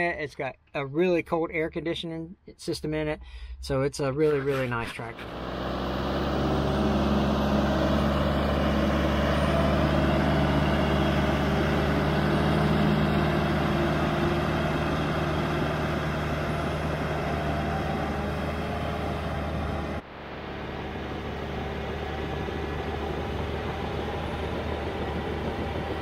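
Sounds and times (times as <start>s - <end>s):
diesel engine running: 5.0s - 26.0s.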